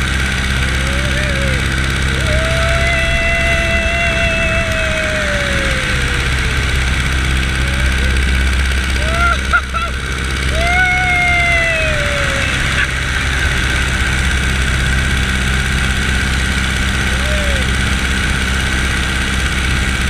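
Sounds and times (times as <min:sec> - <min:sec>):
propeller plane engine running: 0:00.0 - 0:20.0.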